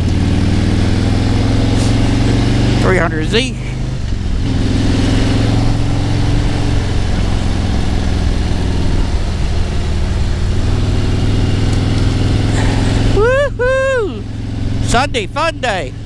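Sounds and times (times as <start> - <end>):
motorcycle engine cruising: 0.0 - 16.0
road noise: 0.0 - 16.0.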